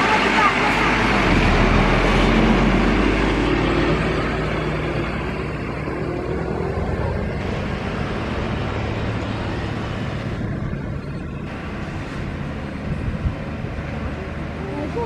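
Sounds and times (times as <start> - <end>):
diesel bus engine idling: 0.0 - 15.0
road and traffic noise: 0.0 - 15.0.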